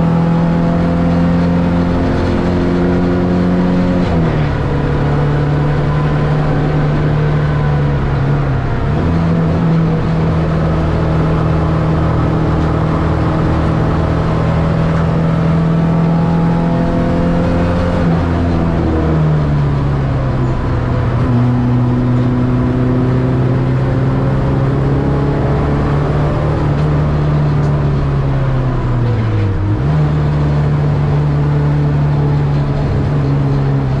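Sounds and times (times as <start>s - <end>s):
race car engine at high revs: 0.0s - 34.0s.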